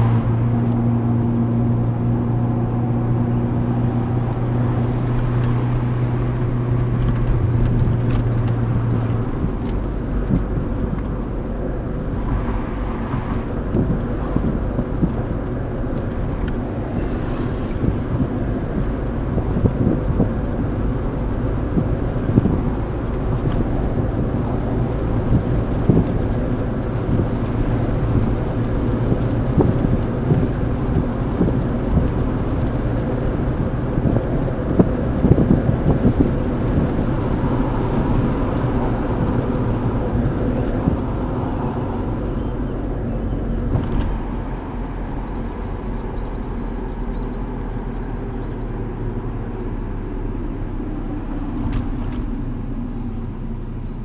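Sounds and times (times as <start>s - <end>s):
car engine hum: 0.0s - 54.0s
tyre and road rumble: 0.0s - 54.0s.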